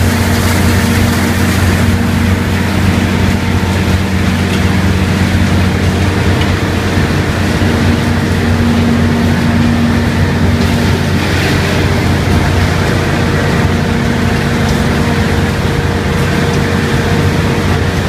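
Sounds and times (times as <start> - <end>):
churning water: 0.0 - 18.0
machinery hum: 0.0 - 18.0.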